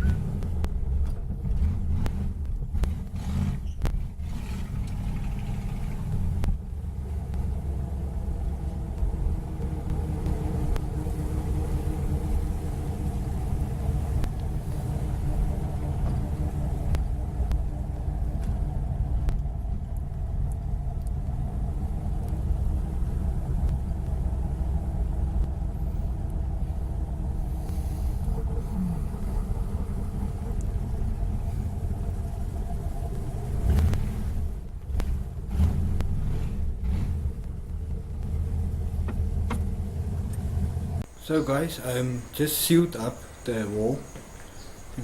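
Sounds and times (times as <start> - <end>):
car engine rumbling: 0.0 - 45.0.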